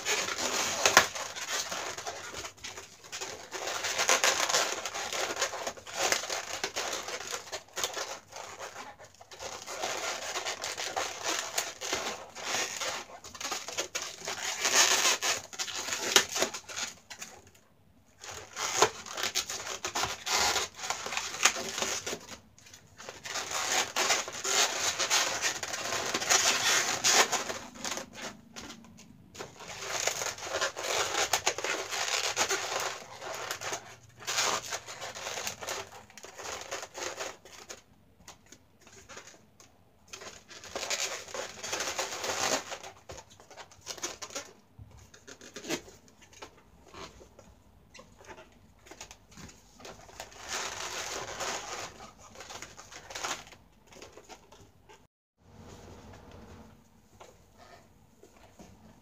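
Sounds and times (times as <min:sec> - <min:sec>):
balloons rubbing together: 0:00.0 - 0:17.1, 0:18.2 - 0:37.8, 0:40.3 - 0:56.7.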